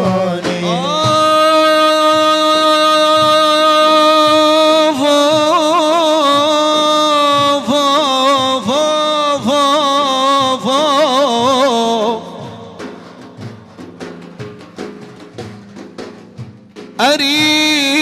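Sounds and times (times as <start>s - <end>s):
man singing without words: 0.0s - 13.6s, 17.0s - 18.0s.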